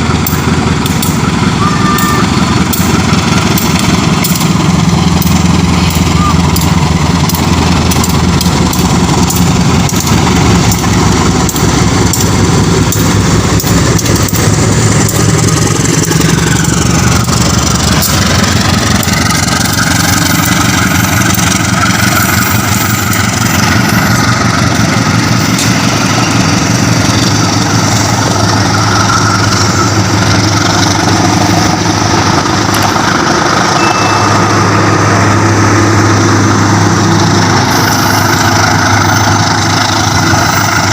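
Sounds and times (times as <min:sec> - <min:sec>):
diesel locomotive engine running: 0:00.0 - 0:40.9.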